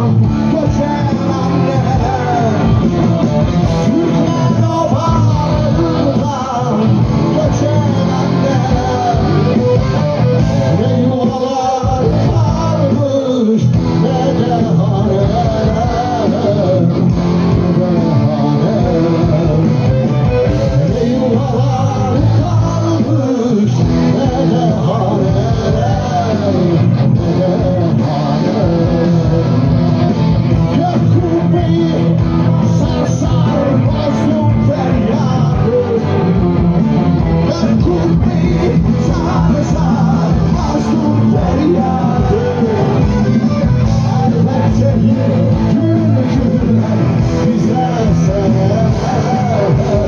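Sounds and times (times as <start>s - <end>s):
electric guitars: 0.0s - 50.0s
live rock band playing: 0.0s - 50.0s
man singing: 0.0s - 50.0s.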